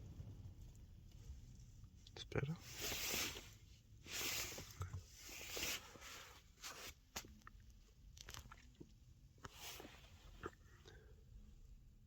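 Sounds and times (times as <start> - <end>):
faint rustling: 0.0 - 10.8.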